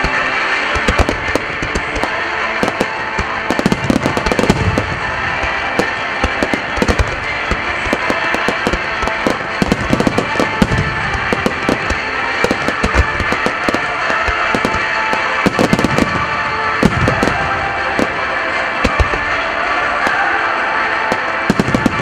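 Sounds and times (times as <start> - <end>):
fireworks launching and bursting: 0.0 - 22.0
music: 0.0 - 22.0.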